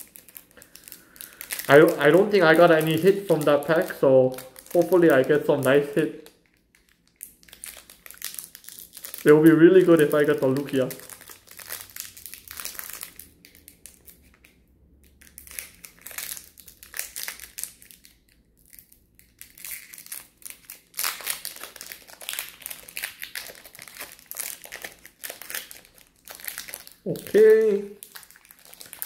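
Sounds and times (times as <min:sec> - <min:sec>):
foil wrapper crinkling: 0:00.0 - 0:29.0.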